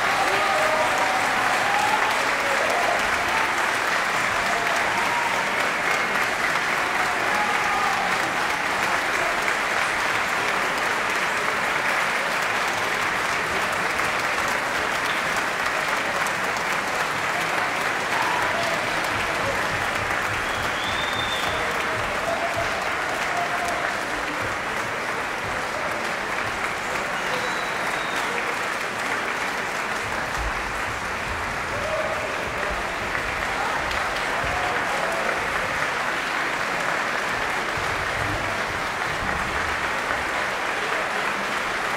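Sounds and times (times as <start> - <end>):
audience applauding: 0.0 - 41.9.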